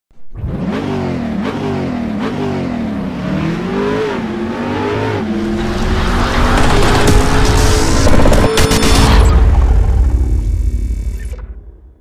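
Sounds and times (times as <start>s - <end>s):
car engine accelerating: 0.3s - 11.8s.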